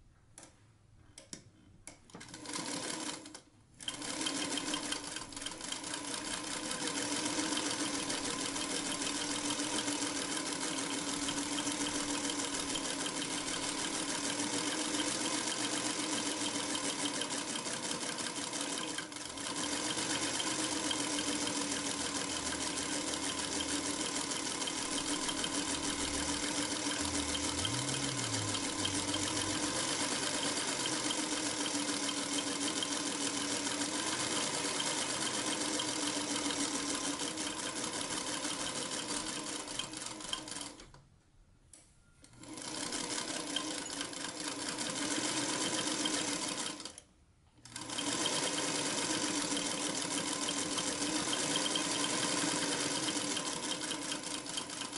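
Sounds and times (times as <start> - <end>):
sewing machine stitching: 2.1 - 41.0, 42.3 - 47.0, 47.6 - 54.9.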